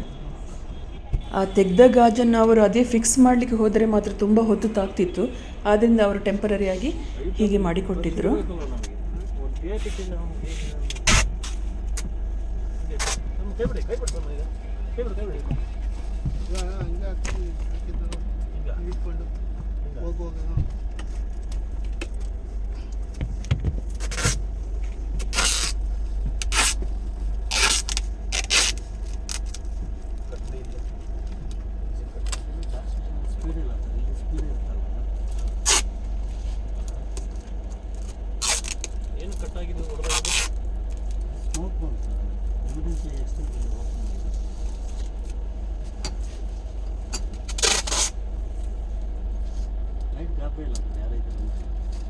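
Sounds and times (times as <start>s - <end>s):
train rumbling in motion: 0.0s - 52.0s.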